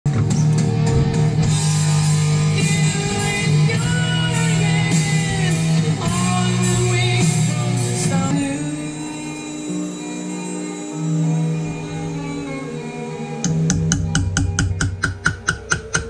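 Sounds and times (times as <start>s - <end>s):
rock music with singing and guitar: 0.1s - 16.0s.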